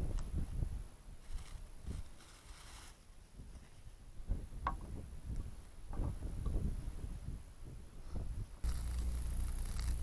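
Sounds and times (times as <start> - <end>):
wind buffeting microphone: 0.0 - 2.1, 3.4 - 10.0.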